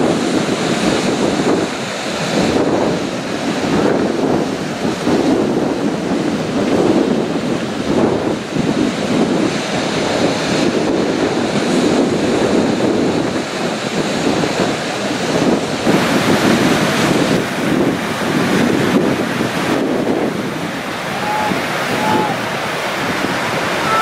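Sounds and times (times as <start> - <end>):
sea waves breaking: 0.0 - 24.0
wind buffeting microphone: 0.0 - 24.0.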